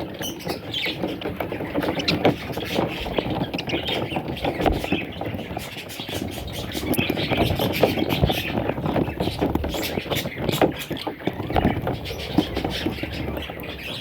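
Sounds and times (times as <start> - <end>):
bird chicks raspy chirping: 0.0 - 14.0
scratching and rustling: 0.0 - 14.0.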